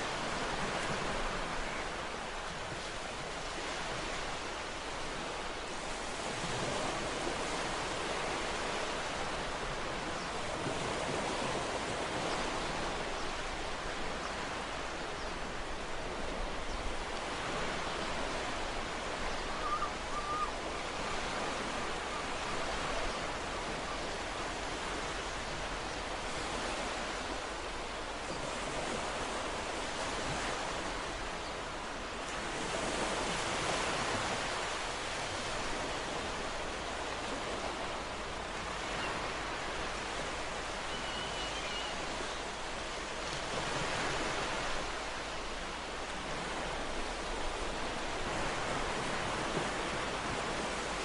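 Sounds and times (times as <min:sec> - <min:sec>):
ocean waves on shore: 0:00.0 - 0:51.0.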